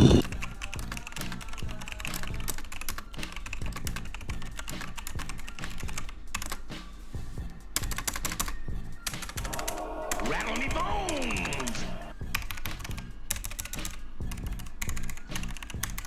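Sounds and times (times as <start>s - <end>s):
fast keyboard typing: 0.0s - 6.7s, 7.8s - 16.0s.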